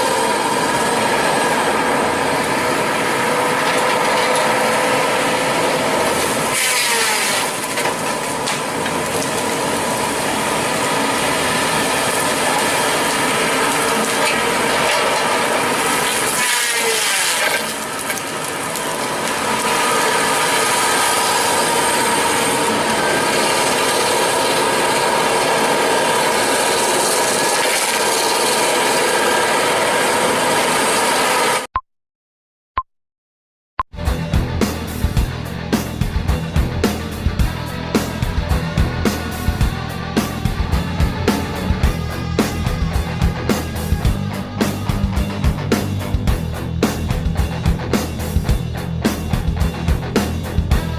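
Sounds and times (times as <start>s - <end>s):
excavator machinery whining: 0.0s - 31.6s, 34.0s - 50.9s.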